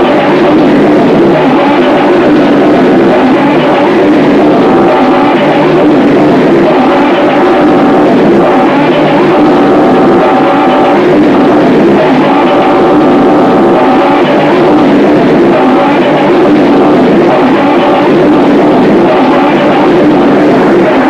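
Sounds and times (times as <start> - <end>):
buzzing pitched tones: 0.0 - 21.0
distorted noise music: 0.0 - 21.0.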